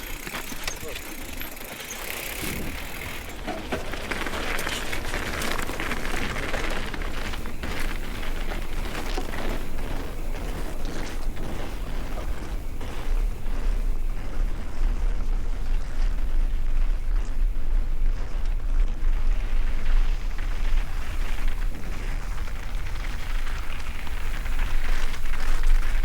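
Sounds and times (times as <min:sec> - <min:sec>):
bike rattling and knocking: 0:00.0 - 0:26.0
bike tyres on rough trail: 0:00.0 - 0:26.0.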